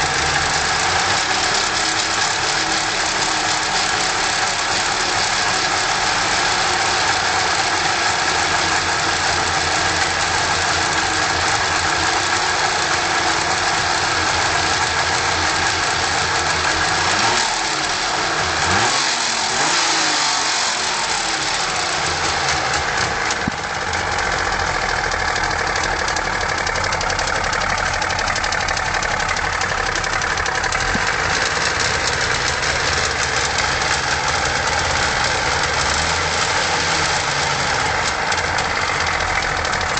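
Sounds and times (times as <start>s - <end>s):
engine revving: 0.0s - 23.8s, 28.1s - 39.9s
engine clatter: 0.0s - 39.9s
two-stroke engine idling: 0.0s - 39.9s.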